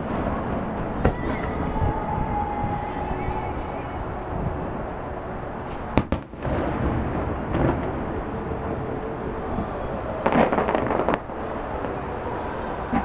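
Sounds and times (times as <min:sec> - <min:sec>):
fireworks bursting: 0:00.0 - 0:03.3, 0:05.6 - 0:13.0
background rumble: 0:00.0 - 0:13.0.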